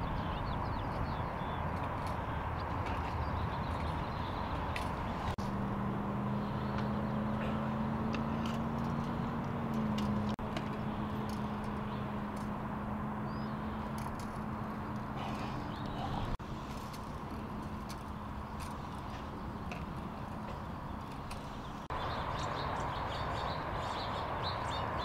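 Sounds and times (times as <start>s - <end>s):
engine idling hum: 0.0s - 24.6s
outdoor background noise: 0.0s - 25.0s.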